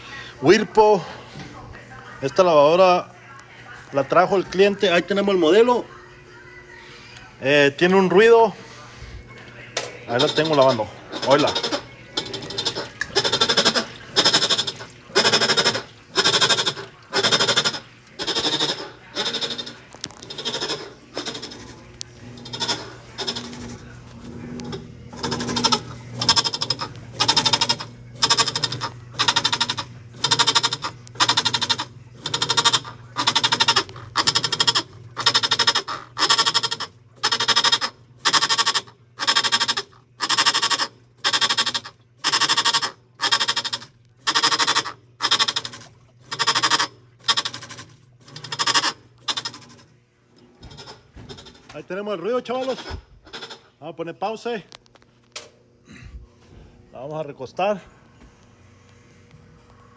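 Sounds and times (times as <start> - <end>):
washing machine motor hum: 0.0 - 59.9
washing machine pulsing noise: 0.0 - 59.9.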